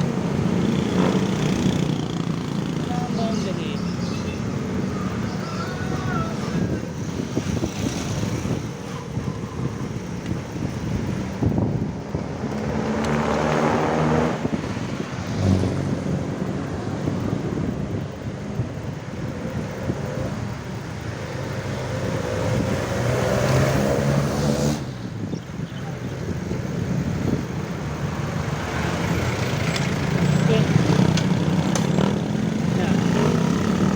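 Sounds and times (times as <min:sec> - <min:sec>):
vehicle engines passing: 0:00.0 - 0:33.9
wind rushing on microphone: 0:00.0 - 0:33.9.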